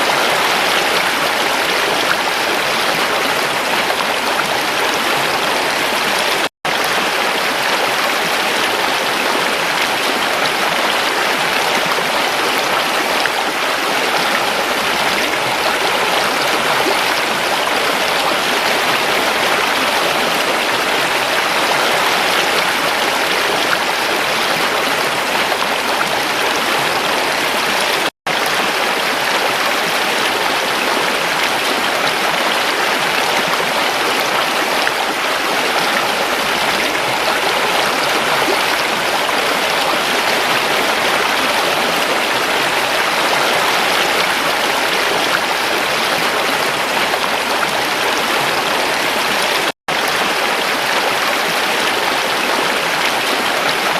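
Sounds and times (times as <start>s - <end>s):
creek flowing over rocks: 0.0s - 53.9s.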